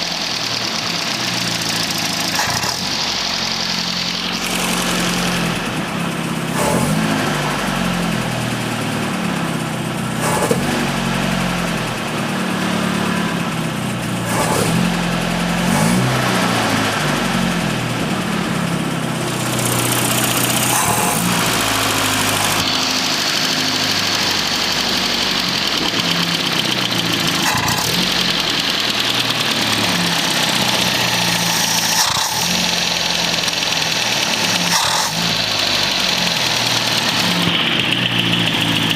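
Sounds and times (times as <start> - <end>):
engine knocks: 0.0 - 38.9
petrol engine idling: 0.0 - 38.9.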